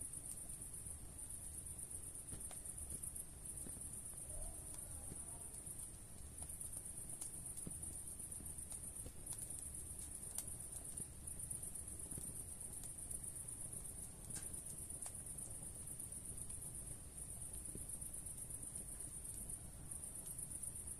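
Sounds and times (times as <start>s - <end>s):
fireplace fire crackling: 0.0s - 20.9s.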